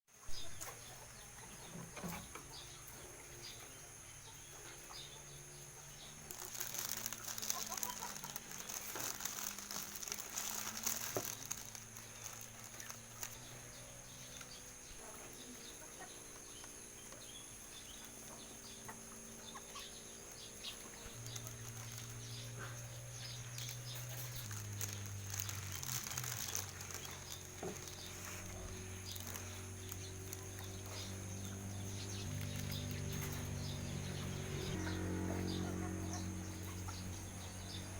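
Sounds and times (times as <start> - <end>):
chickens clucking: 0.3 - 37.9
chickens pecking: 0.3 - 37.9.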